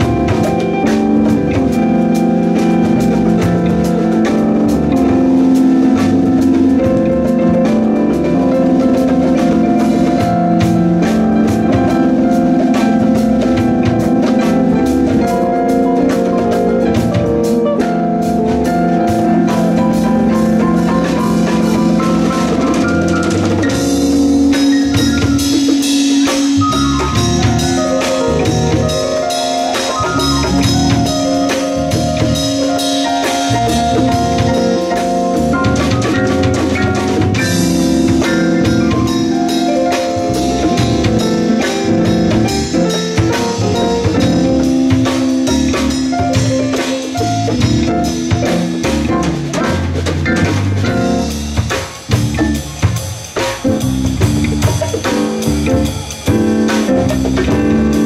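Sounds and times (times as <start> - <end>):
guitar chords: 0.0 - 52.7
bass guitar: 0.0 - 58.0
drum kit: 0.0 - 58.0
keyboard chords: 0.0 - 58.0.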